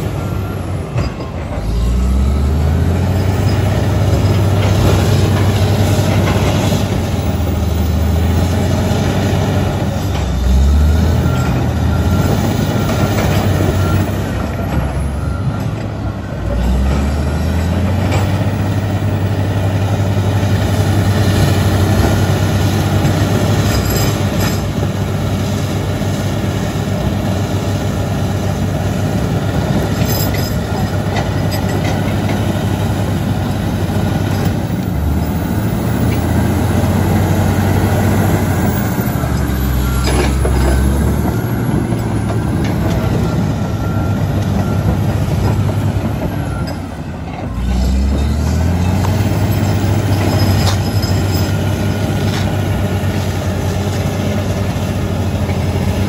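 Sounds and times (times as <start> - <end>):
bulldozer diesel engine running: 0.0 - 56.0
steel tracks clattering and squeaking: 0.0 - 56.0.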